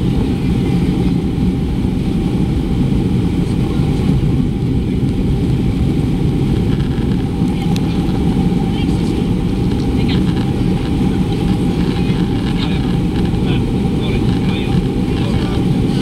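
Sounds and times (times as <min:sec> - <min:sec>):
airliner engines rumbling: 0:00.0 - 0:16.0
rushing air in cabin: 0:00.0 - 0:16.0.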